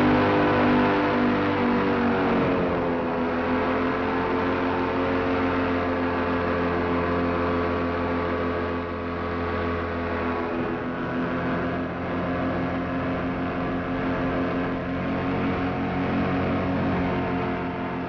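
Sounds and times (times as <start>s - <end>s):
paramotor engine humming: 1.7s - 18.0s.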